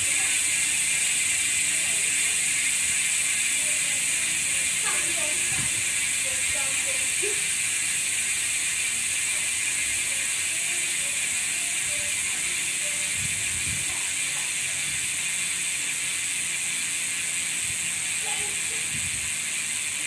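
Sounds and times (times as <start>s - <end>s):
bike hub ratcheting buzz: 0.0s - 20.0s.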